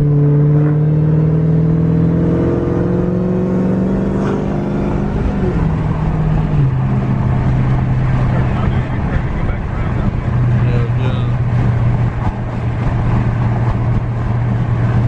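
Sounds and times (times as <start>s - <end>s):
car engine running from inside: 0.0s - 15.0s.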